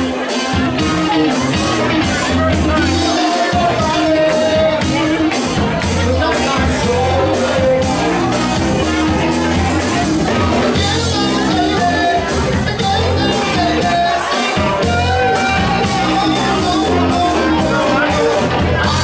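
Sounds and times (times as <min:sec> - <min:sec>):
bass guitar: 0:00.0 - 0:19.0
drums beat: 0:00.0 - 0:19.0
electric guitar: 0:00.0 - 0:19.0
person singing lead vocal: 0:00.0 - 0:19.0.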